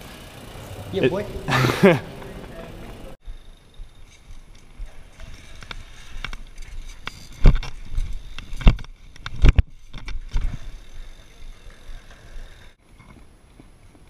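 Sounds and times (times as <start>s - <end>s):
bike rolling on concrete: 0.0s - 14.0s.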